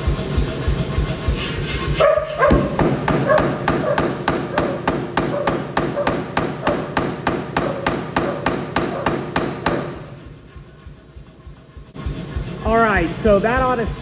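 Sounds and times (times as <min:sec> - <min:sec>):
power hammer striking metal: 0:00.0 - 0:13.8.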